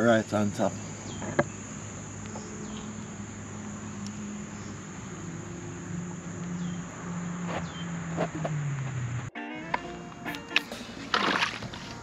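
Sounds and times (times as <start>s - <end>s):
insects chirring: 0.0s - 9.3s, 10.2s - 12.0s.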